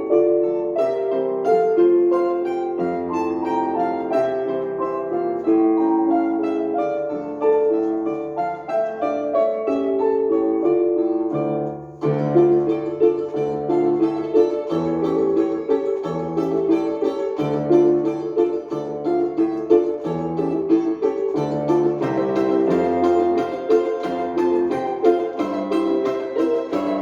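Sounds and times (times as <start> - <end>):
live piano music: 0.0 - 27.0.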